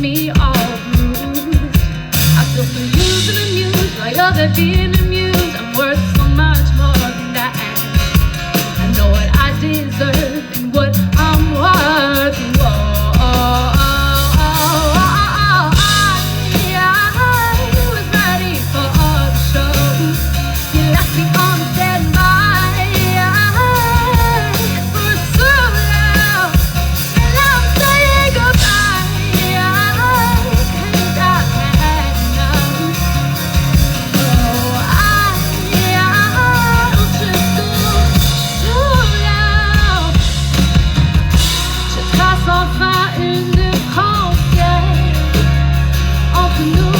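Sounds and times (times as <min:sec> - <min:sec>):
drum-kit beat: 0:00.0 - 0:46.9
pop-rock song: 0:00.0 - 0:46.9
sung melody: 0:00.0 - 0:46.9.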